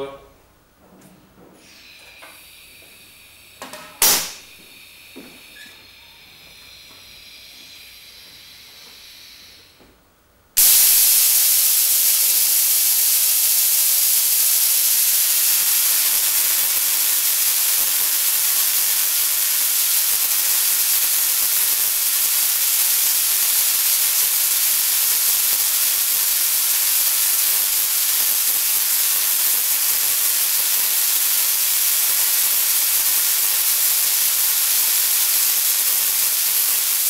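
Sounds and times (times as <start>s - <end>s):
tesla coil sparks hissing: 1.6s - 9.8s, 10.6s - 37.0s.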